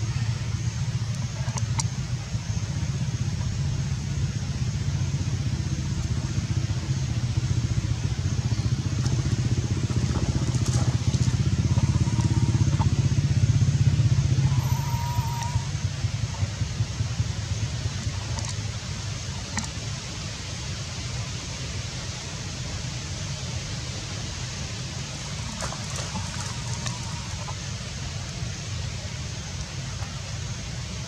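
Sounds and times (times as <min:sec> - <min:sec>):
engine running low rumble: 0:00.0 - 0:31.0.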